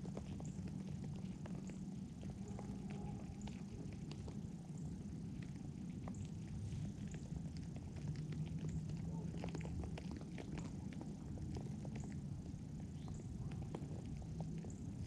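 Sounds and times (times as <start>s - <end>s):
cat purring: 0.0s - 15.0s
crunching clicks of chewing: 0.0s - 15.0s.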